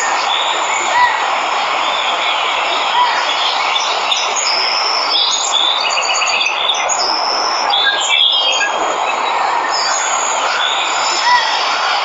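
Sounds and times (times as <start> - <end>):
birds chirping and calling: 0.0 - 12.0
waterfall rushing: 0.0 - 12.0.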